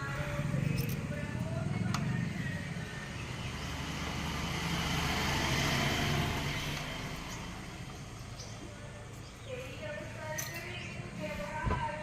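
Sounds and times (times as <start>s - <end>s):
road vehicle passing by: 0.0s - 10.2s.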